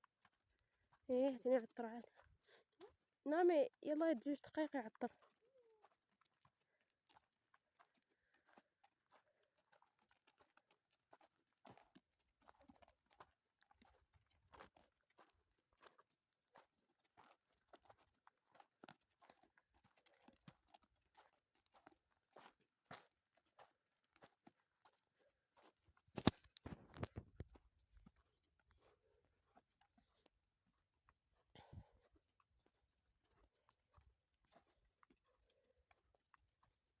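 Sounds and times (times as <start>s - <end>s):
donkey hooves on stony ground: 0.0s - 37.0s.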